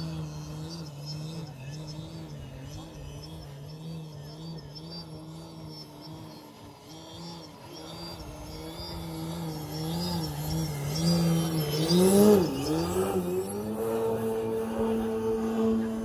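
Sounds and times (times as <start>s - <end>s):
electric model plane motor: 0.0s - 16.0s.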